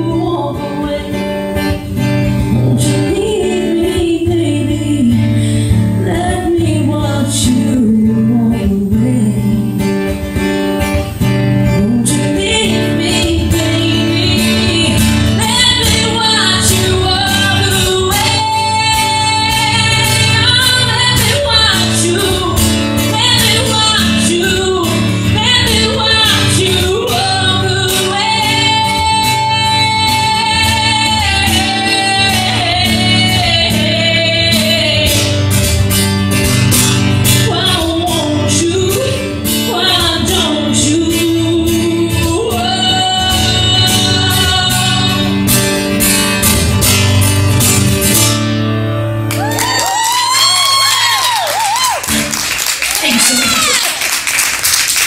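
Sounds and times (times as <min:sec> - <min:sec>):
woman singing country song: 0:00.0 - 0:48.6, 0:49.4 - 0:52.3, 0:52.9 - 0:54.0
strummed acoustic guitar: 0:00.0 - 0:49.4.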